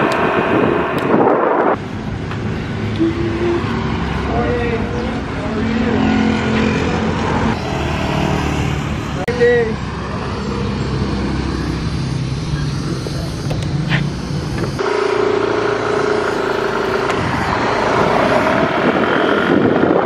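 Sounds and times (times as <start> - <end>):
rushing wind noise: 0.0 - 14.9, 15.9 - 20.0
motor scooter engine: 0.0 - 20.0.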